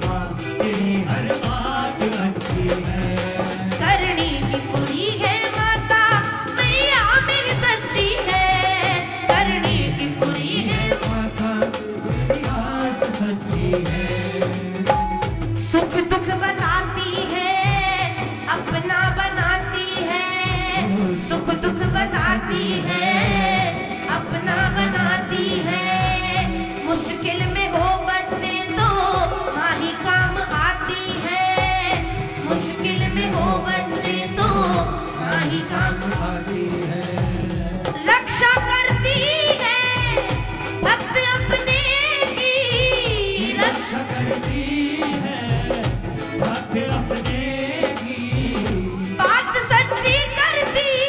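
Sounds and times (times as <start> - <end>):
instrumental accompaniment with drum beat: 0.0 - 51.0
woman singing devotional song: 0.0 - 51.0.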